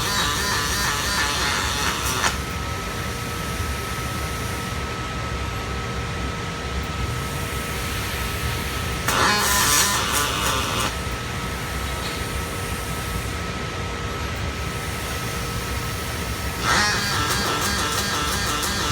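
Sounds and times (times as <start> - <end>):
industrial machine noise: 0.0 - 18.9.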